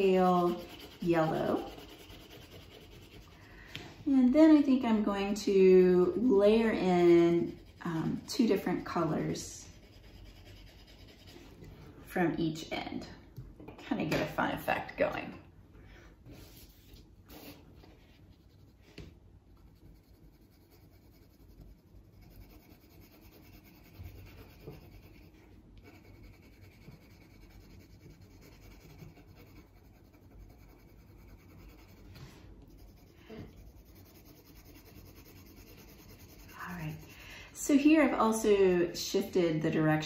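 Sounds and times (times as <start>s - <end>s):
colored pencil scratching on paper: 0.0s - 3.5s, 4.2s - 11.6s, 16.4s - 39.8s.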